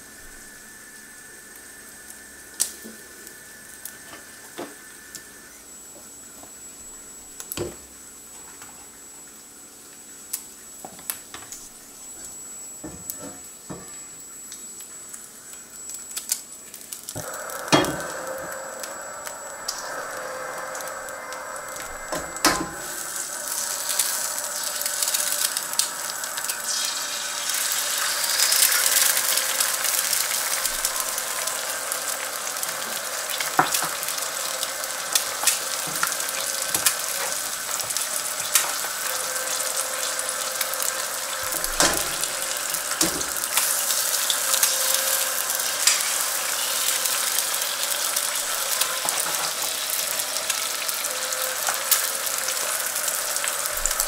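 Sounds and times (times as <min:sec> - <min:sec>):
egg sizzling in fat: 0:00.0 - 0:54.0.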